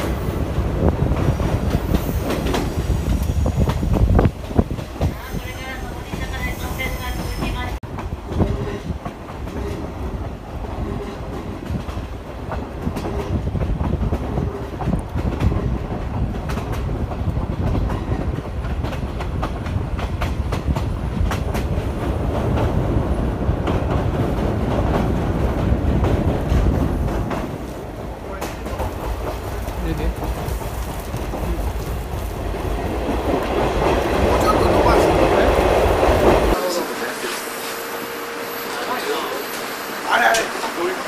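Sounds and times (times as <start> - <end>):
rail joints clacking: 0.0 - 41.0
train wheels rumbling: 0.0 - 41.0.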